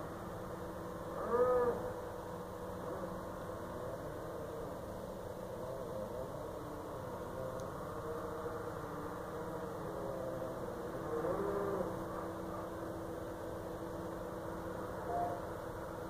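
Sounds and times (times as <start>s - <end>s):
distant wavering tones: 0.0s - 16.0s
steady background hum: 0.0s - 16.0s.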